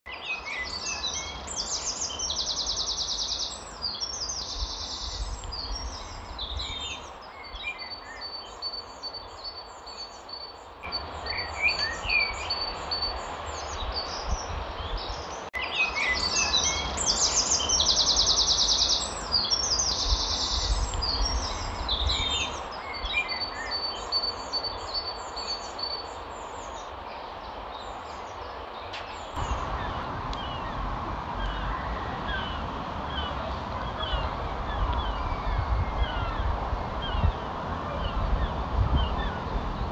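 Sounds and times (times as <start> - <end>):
songbirds singing and chirping: 0.1 - 39.9.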